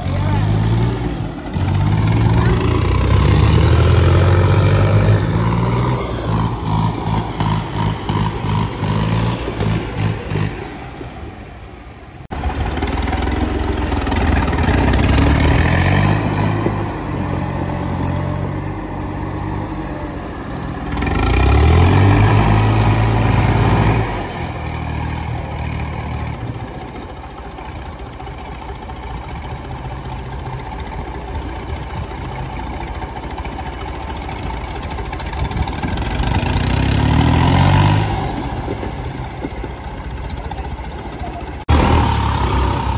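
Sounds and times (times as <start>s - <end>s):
diesel tractor engines revving: 0.0s - 42.9s.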